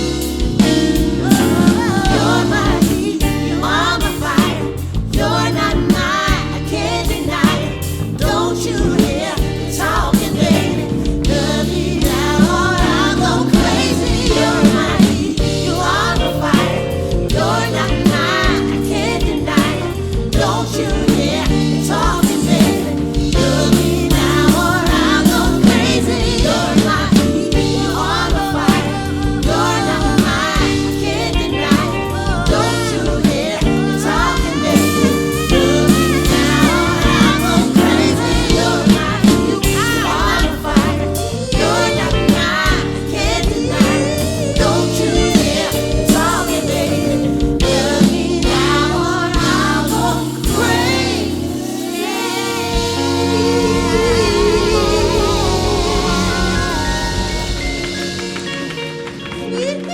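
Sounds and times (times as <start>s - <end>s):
bass: 0.0s - 59.9s
drum kit groove: 0.0s - 59.9s
keyboards: 0.0s - 59.9s
women singing in harmony: 0.0s - 59.9s.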